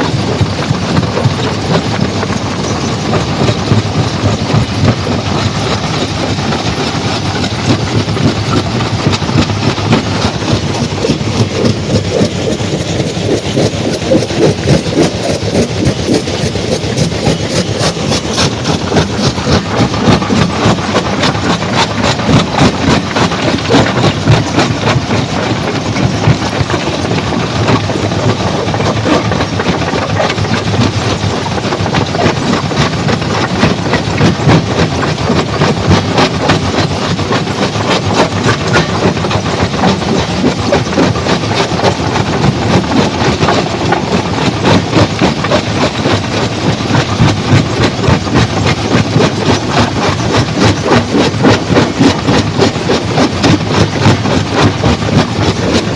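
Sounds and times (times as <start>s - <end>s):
heavy machinery running: 0.0s - 55.9s
rock crushing clatter: 0.0s - 55.9s.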